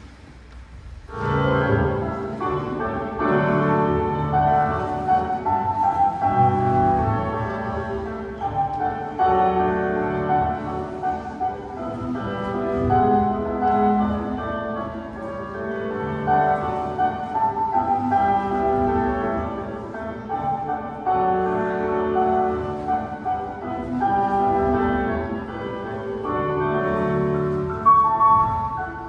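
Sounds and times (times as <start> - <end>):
classical instrumental music: 0.0 - 29.0.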